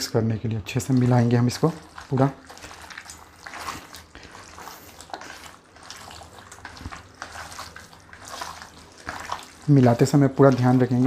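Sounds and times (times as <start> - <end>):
hand squishing wet meat: 0.0 - 11.0.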